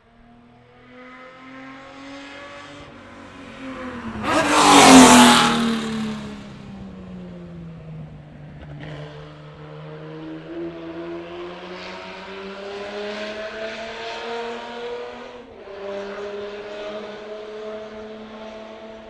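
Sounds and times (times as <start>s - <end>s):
car engine accelerating hard: 0.4s - 19.0s.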